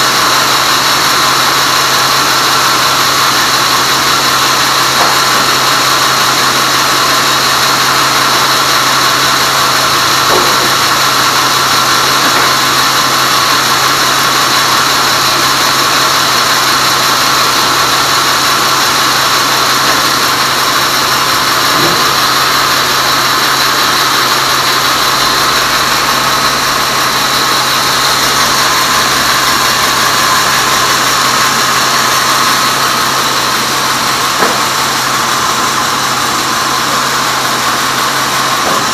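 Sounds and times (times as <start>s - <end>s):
band sawmill machine drone: 0.0s - 38.9s.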